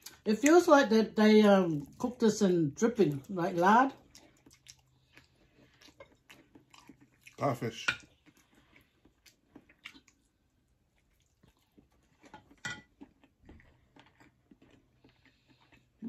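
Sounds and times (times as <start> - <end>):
soft chewing: 1.7 - 16.0.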